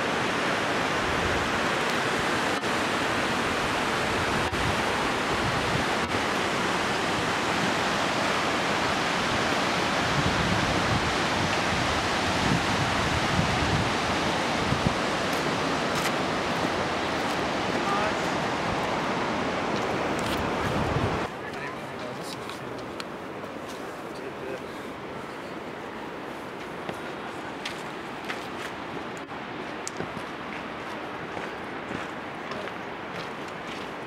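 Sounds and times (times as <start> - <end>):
creek rushing over rocks: 0.0 - 34.0.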